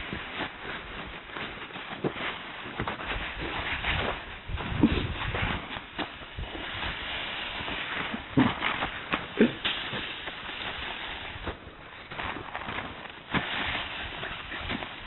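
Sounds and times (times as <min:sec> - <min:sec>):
footfalls in snow: 0:00.0 - 0:15.0
wind hiss on microphone: 0:02.0 - 0:12.6, 0:13.2 - 0:15.0.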